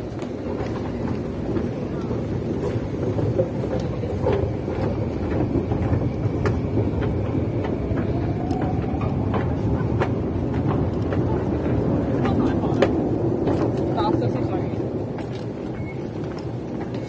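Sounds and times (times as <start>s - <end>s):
low rumbling noise: 0.0s - 17.0s.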